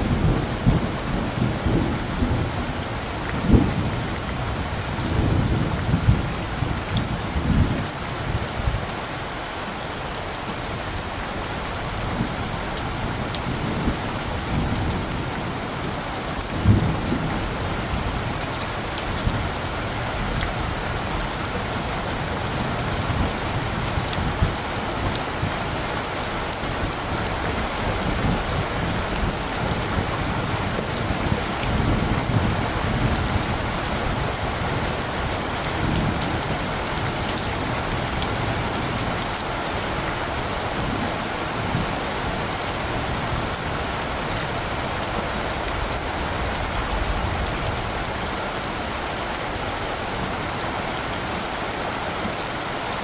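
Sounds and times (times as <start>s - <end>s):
distant thunder rumbles: 0.0s - 8.9s, 12.0s - 49.0s
raindrops ticking close by: 0.0s - 53.0s
steady rain falling: 0.0s - 53.0s.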